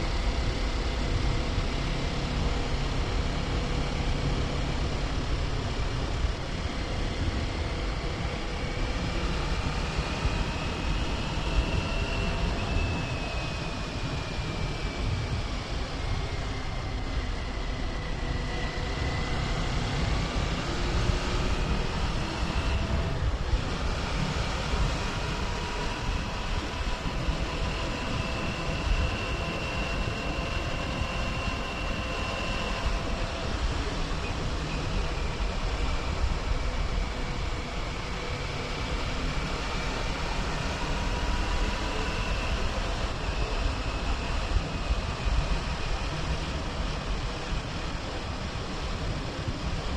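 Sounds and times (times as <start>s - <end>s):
wind rushing on microphone: 0.0s - 49.9s.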